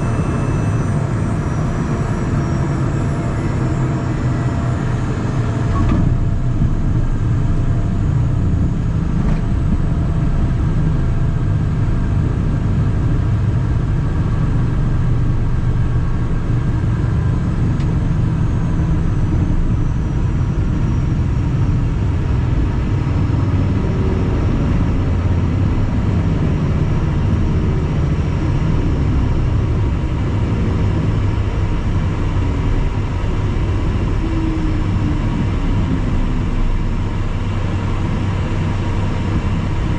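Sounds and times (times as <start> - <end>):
jet cabin rumble: 0.0 - 39.9.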